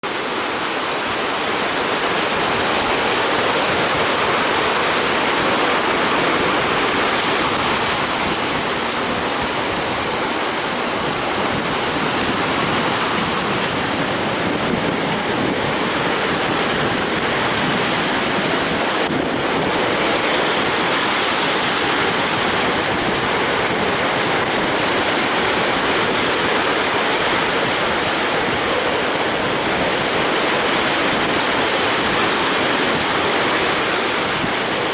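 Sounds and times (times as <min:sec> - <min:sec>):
strong wind: 0:00.0 - 0:34.9
surf breaking: 0:00.0 - 0:34.9.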